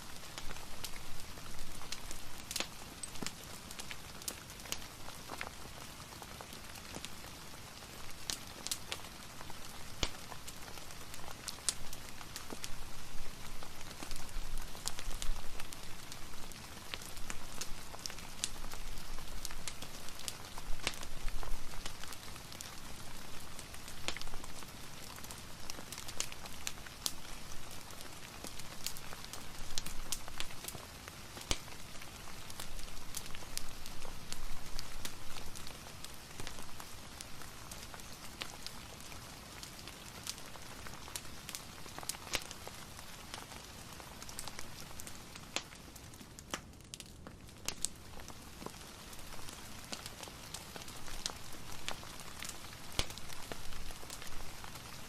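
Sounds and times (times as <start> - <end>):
fireplace crackling: 0.0 - 55.0
rain patter: 0.0 - 55.0.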